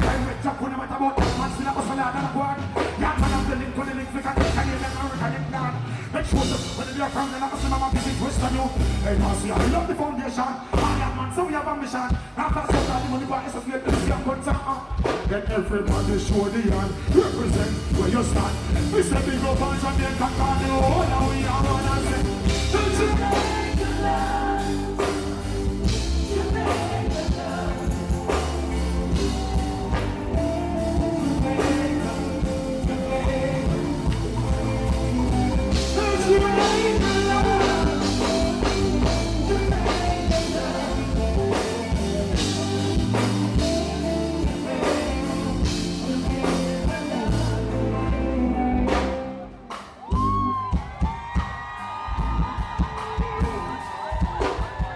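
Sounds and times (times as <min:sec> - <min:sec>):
drum kit beat: 0:00.0 - 0:10.2, 0:10.8 - 0:54.9
bass: 0:00.0 - 0:54.9
live band music: 0:00.0 - 0:54.9
person singing: 0:00.0 - 0:54.9.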